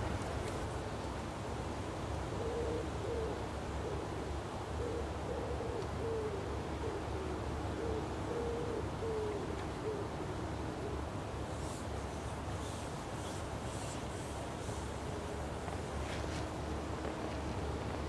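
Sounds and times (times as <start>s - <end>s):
bird hooting coos: 2.2s - 16.7s.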